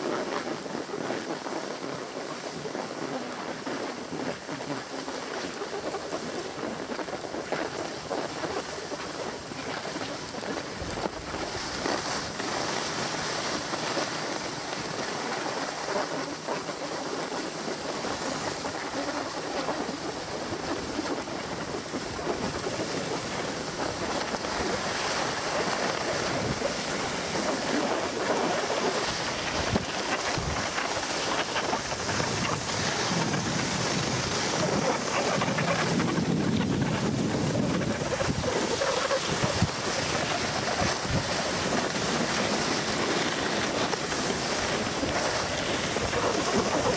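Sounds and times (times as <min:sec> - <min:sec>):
skis scraping on snow: 0:00.0 - 0:46.9
wind on microphone: 0:00.0 - 0:46.9.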